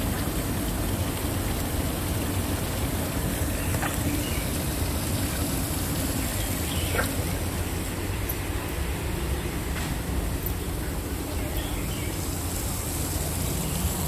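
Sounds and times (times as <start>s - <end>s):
waterfall pouring: 0.0s - 14.0s.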